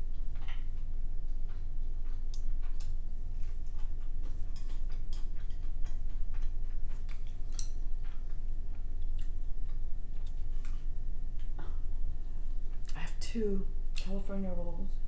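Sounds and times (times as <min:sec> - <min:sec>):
mouth chewing rice: 0:00.0 - 0:13.0
low hum: 0:00.0 - 0:15.0.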